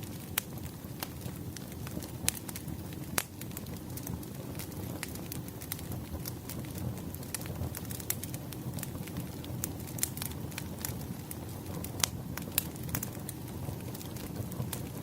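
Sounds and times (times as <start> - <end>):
logs crackling and popping: 0.0 - 15.0
rumble of fire flames: 0.0 - 15.0.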